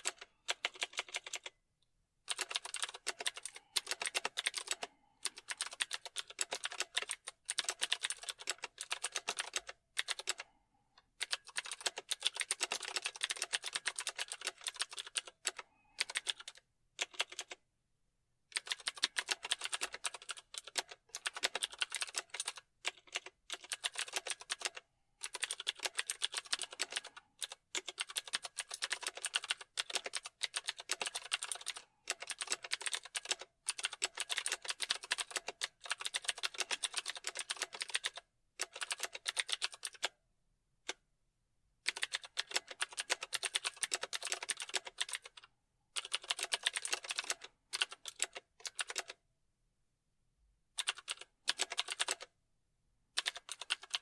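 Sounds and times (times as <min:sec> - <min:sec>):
fast keyboard typing: 0:00.0 - 0:01.5, 0:02.3 - 0:10.5, 0:11.2 - 0:17.6, 0:18.5 - 0:40.1, 0:41.8 - 0:49.2, 0:50.8 - 0:52.4, 0:53.2 - 0:54.0.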